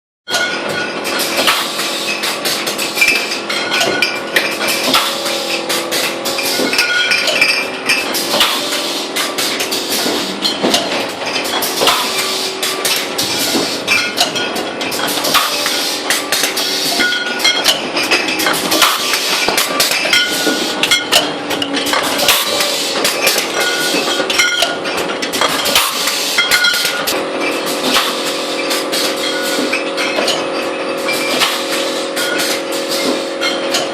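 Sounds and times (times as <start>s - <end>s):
bottling machinery clatter: 0.3s - 33.9s
glass bottles clinking: 0.3s - 33.9s
steady motor hum: 0.6s - 33.9s.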